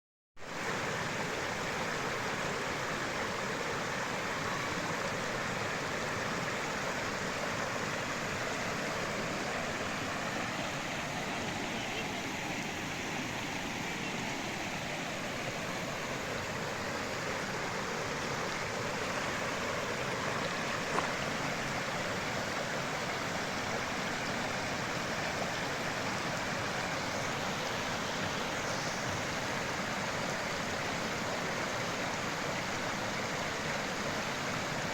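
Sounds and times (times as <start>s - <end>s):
stream water flowing: 0.4s - 34.9s.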